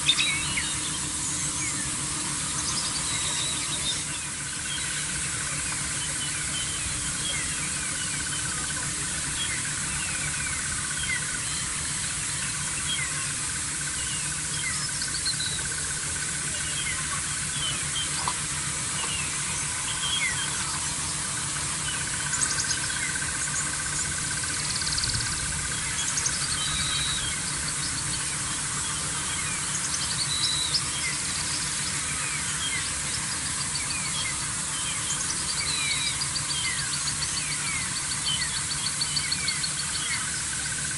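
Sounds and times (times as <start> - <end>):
low hum: 0.0 - 40.9
small birds chirping: 0.0 - 40.9
steady hiss: 0.0 - 40.9.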